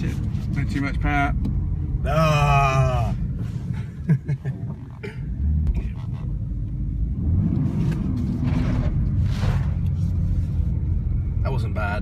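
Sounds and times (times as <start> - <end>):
car engine under throttle: 0.0 - 11.8.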